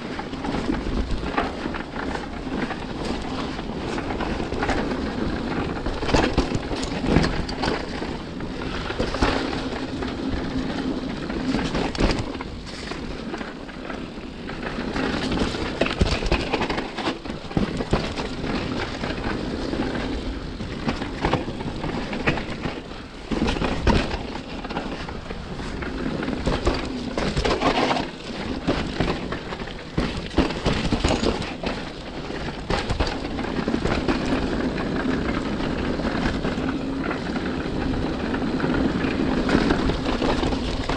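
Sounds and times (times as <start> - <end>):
bike knocks and rattles: 0.0 - 40.9
wind and tyre noise: 0.0 - 40.9.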